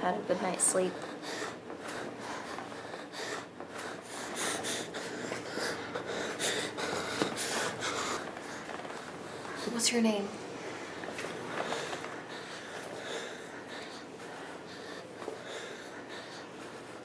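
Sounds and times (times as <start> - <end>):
person breathing heavily: 0.6 - 17.0.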